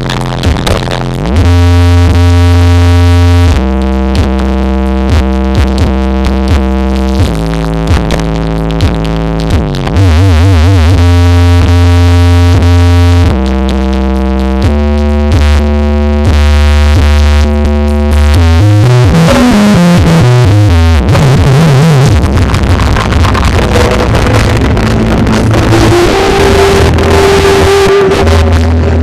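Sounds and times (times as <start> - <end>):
heavy bass: 0.0 - 29.0
loud electronic music: 0.0 - 29.0.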